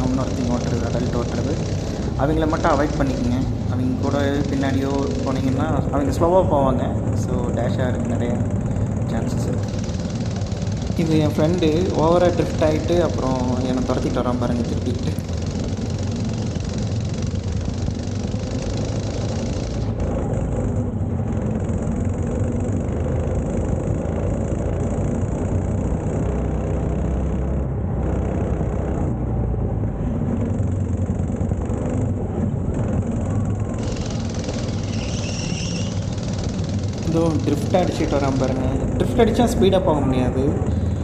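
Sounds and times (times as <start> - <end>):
go-kart engine running: 0.0 - 41.0.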